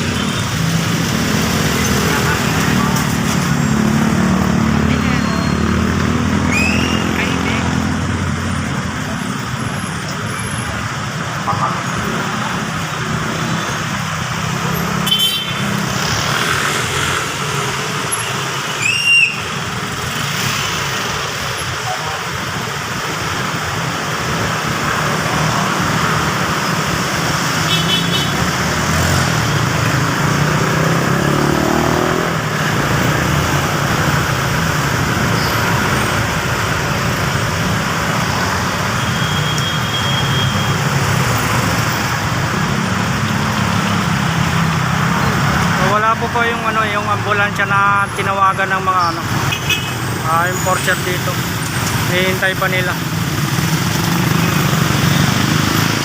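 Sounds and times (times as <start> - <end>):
traffic engines running: 0.0 - 56.0.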